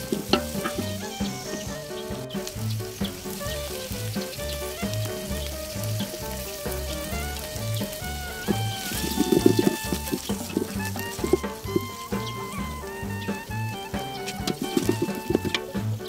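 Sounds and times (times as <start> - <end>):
background music with steady beat: 0.0 - 16.0
vegetables sizzling in a pan: 0.0 - 16.0.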